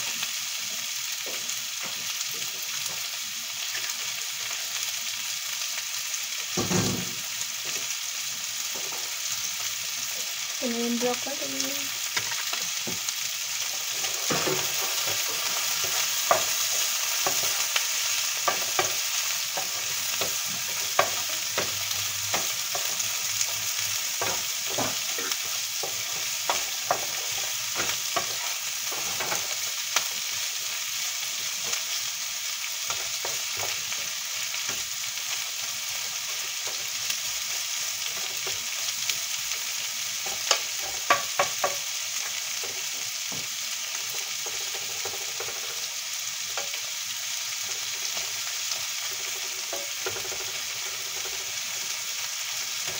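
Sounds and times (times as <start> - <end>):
beef sizzling in a pan: 0.0 - 52.9.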